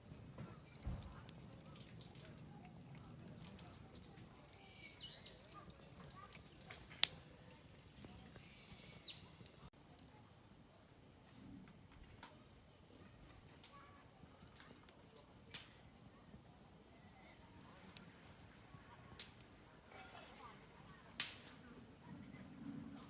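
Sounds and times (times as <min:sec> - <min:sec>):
campfire crackling: 0:00.0 - 0:23.0
fire popping: 0:00.0 - 0:23.0.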